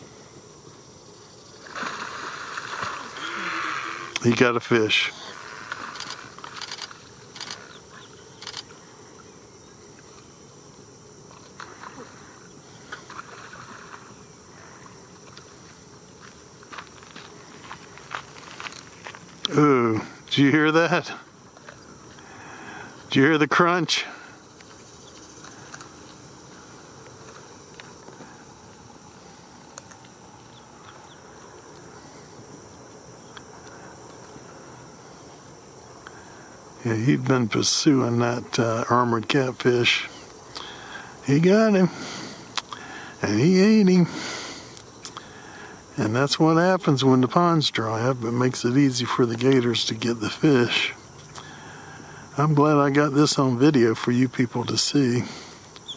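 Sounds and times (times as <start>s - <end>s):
high-pitched insect drone: 0.0s - 55.9s.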